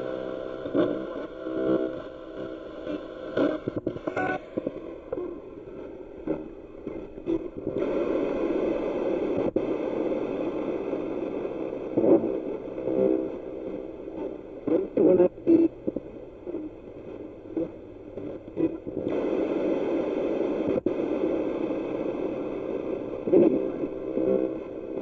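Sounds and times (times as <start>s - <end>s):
clipped radio broadcast fragments: 0.0s - 25.0s
radio static bursts: 0.0s - 25.0s.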